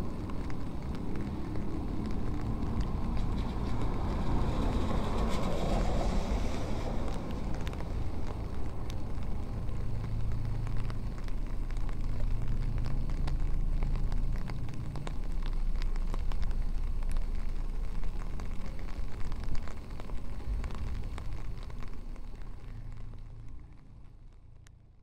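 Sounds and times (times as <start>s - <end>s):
low engine hum: 0.0s - 25.0s
low rumble: 0.0s - 25.0s
rain falling: 0.0s - 25.0s
raindrops ticking on microphone: 0.0s - 25.0s.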